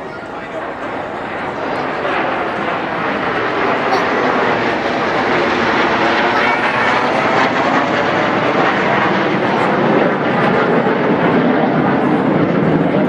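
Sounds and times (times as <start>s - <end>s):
jets flying overhead: 0.0s - 13.0s.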